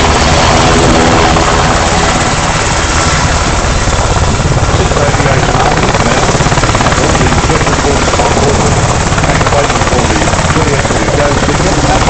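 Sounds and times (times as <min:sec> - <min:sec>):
helicopter rotor blades beating: 0:00.0 - 0:12.0
turbine engines: 0:00.0 - 0:12.0.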